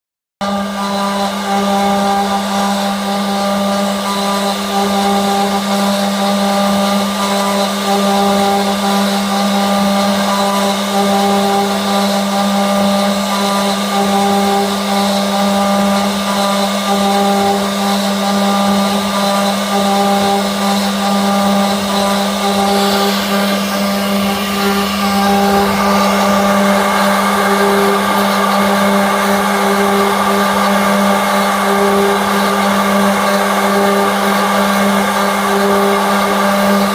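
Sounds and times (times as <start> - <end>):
woodworking machine motor hum: 0.4 - 36.9.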